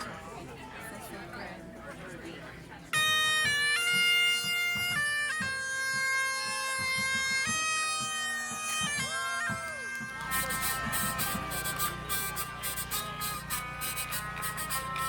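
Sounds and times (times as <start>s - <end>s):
bagpipes playing over drone: 2.9s - 15.0s.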